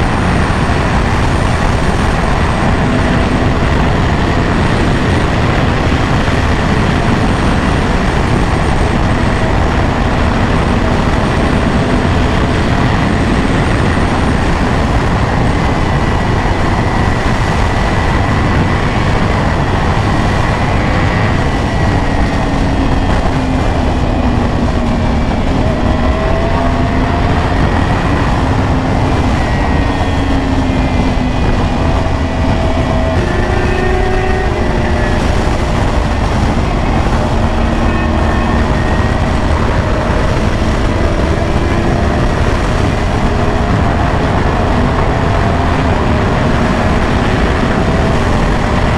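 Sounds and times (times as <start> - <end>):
motorcycle engine running: 0.0 - 48.9
wind rushing over helmet: 0.0 - 48.9.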